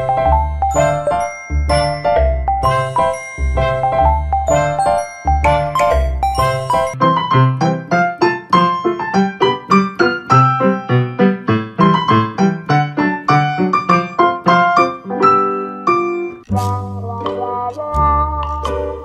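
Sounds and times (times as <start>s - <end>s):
piano playing single notes: 0.0s - 19.0s.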